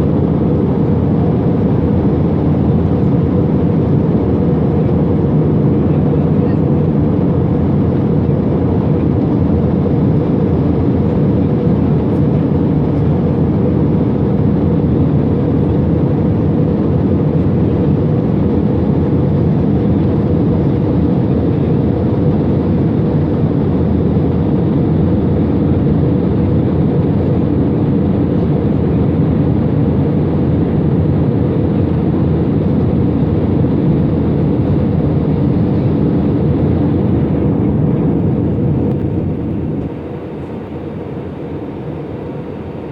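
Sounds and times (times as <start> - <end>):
airliner engines roaring in cabin: 0.0 - 42.9.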